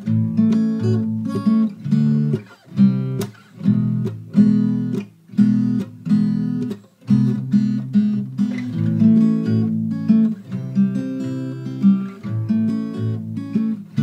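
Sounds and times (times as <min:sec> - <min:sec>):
guitar chords strummed: 0:00.0 - 0:14.0.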